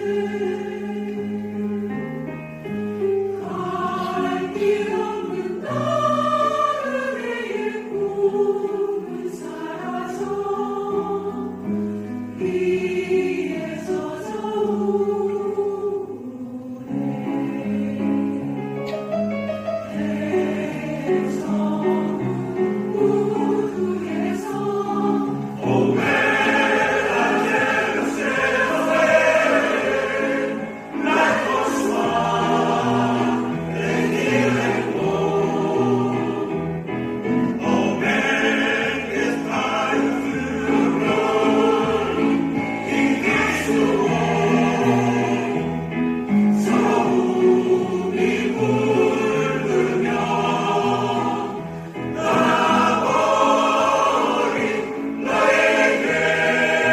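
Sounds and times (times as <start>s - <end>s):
choir singing: 0.0s - 56.9s.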